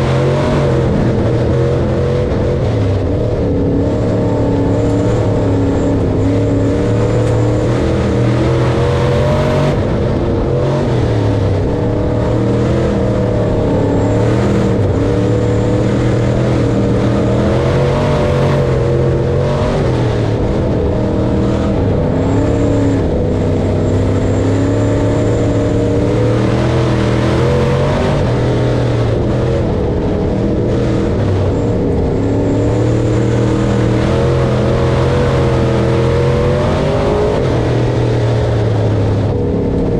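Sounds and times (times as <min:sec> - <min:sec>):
harvester engine running under load: 0:00.0 - 0:39.9.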